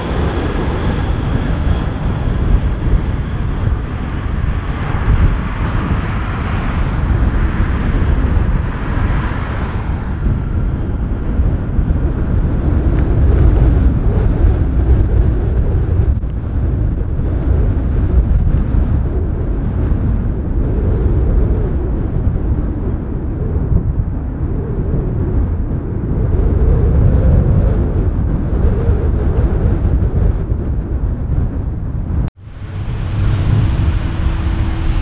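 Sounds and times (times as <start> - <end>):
jet engines rumbling at takeoff: 0.0 - 35.0.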